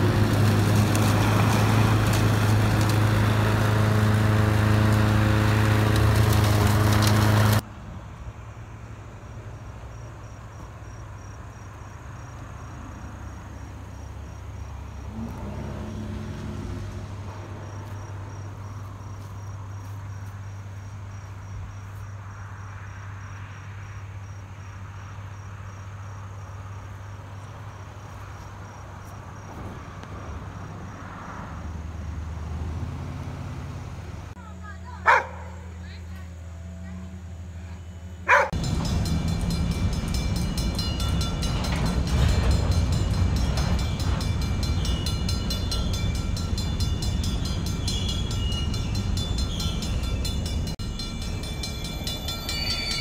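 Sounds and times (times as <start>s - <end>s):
engine hum: 0.0s - 53.0s
crickets chirping: 8.0s - 33.1s, 34.4s - 53.0s.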